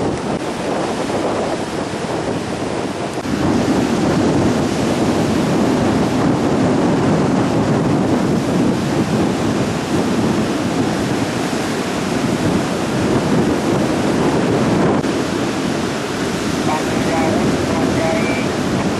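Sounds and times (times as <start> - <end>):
sea waves crashing: 0.0 - 18.9
strong wind: 0.0 - 18.9.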